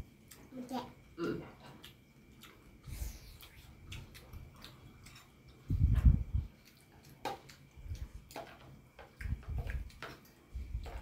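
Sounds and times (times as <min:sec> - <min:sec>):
chewing: 0:00.2 - 0:11.0.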